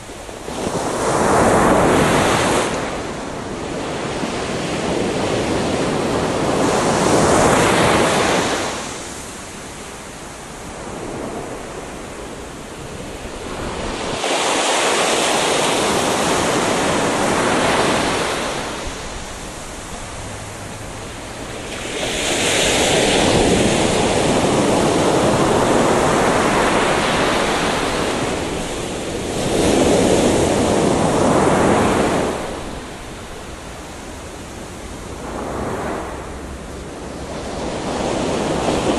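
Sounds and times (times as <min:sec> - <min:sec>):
gentle sea waves on beach: 0:00.0 - 0:38.9.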